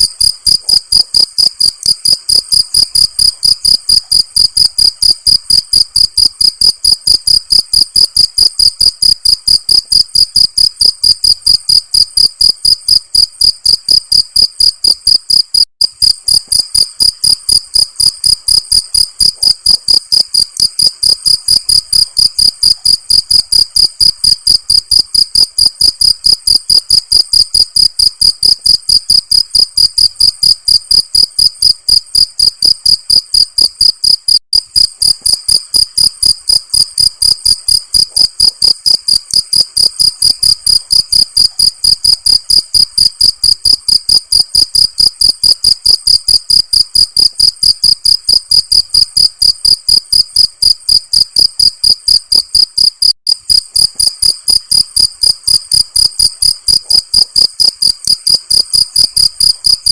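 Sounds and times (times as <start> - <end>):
crickets chirping: 0.0 - 59.8.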